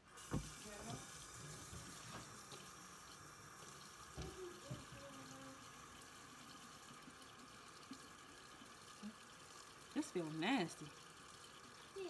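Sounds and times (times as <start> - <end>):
tap water running into a sink: 0.0 - 12.0.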